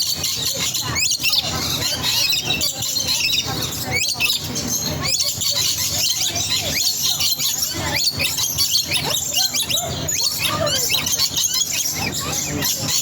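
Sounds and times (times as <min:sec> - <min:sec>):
small animals chirping and squeaking: 0:00.0 - 0:13.0.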